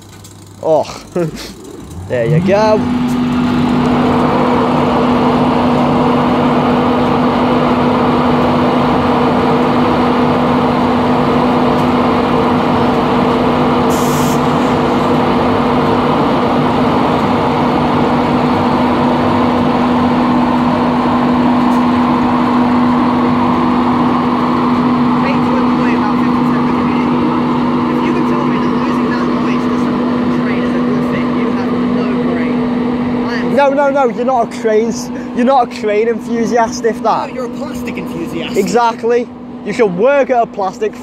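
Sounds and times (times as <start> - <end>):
electric locomotive hum: 0.0 - 41.0.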